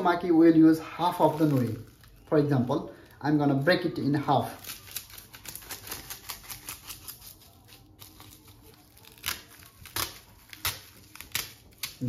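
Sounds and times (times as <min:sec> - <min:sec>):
seaweed sheet crackling: 0:00.0 - 0:12.0.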